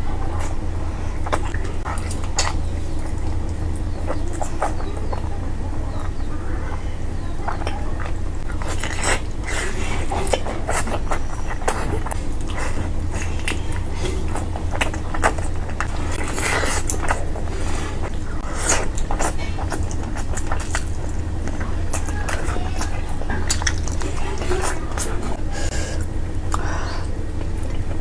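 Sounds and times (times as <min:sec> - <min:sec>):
steady low hum: 0:00.0 - 0:28.0
chewing and mouth smacks: 0:00.2 - 0:28.0.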